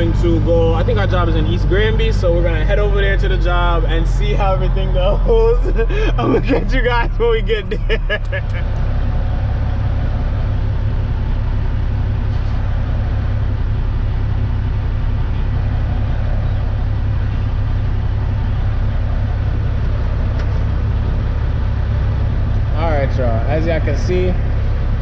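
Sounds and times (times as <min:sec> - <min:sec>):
diesel truck engine droning: 0:00.0 - 0:25.0.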